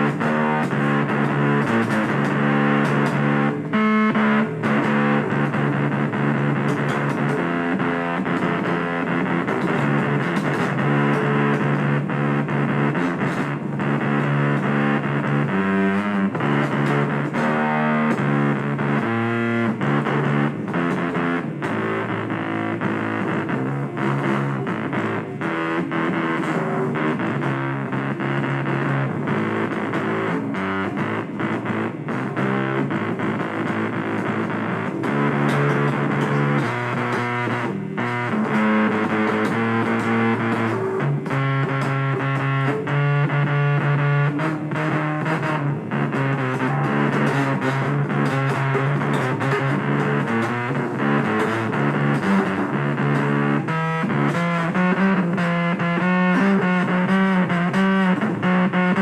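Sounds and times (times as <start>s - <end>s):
distorted electric guitar: 0.0s - 59.0s.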